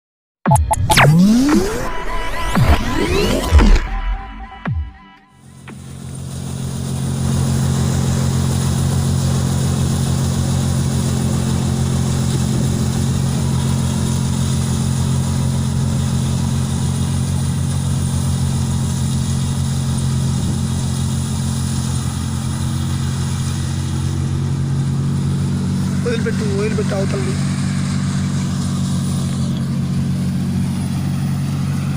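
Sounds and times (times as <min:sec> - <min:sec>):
tractor diesel engine running: 0:05.4 - 0:31.9.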